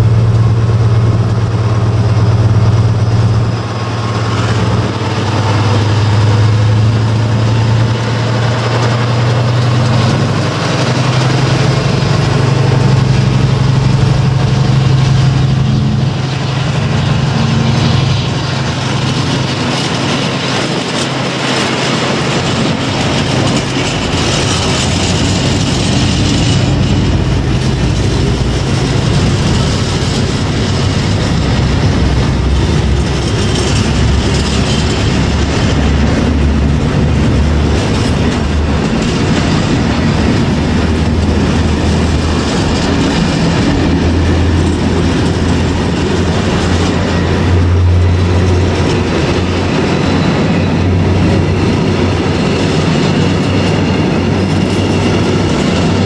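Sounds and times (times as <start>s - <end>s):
freight train wagons rolling: 0.0s - 56.0s
low locomotive drone: 0.0s - 56.0s.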